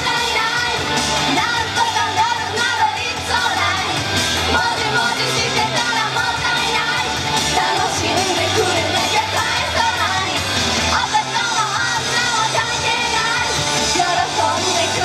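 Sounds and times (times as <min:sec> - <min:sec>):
woman singing into a microphone: 0:00.0 - 0:03.9, 0:04.5 - 0:15.0
upbeat pop backing music: 0:00.0 - 0:15.0.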